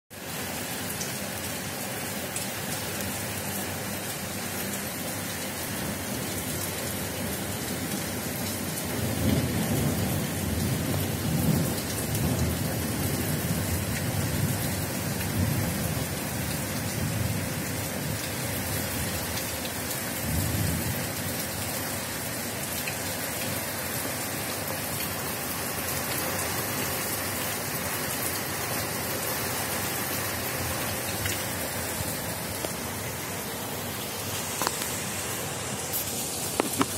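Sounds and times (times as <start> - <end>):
heavy rain pouring: 0.1 - 36.9.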